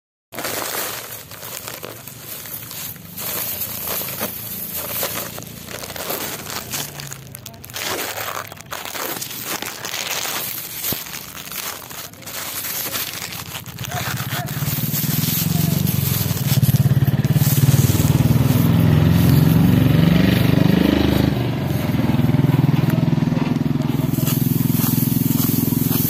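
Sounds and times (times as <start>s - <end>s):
dry straw crackling: 0.3s - 26.0s.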